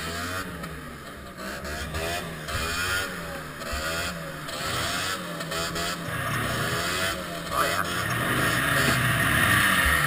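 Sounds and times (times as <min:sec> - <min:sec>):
snowmobile engine idling: 0:00.0 - 0:10.0.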